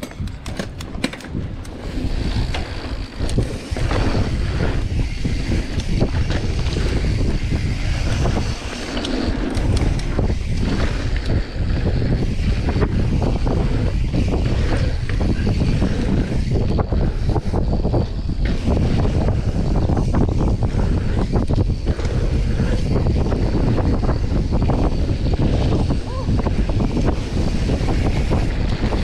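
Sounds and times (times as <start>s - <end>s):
bike rattling: 0.0s - 29.0s
wind buffeting microphone: 0.0s - 29.0s.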